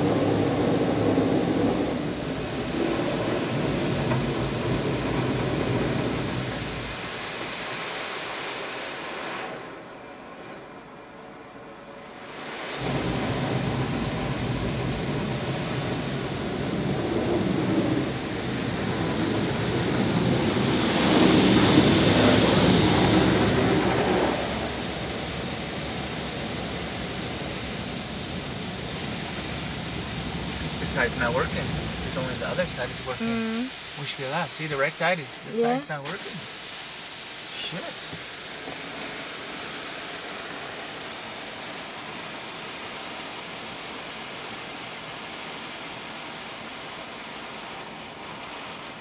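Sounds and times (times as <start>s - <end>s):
water spray on car: 0.0s - 49.0s.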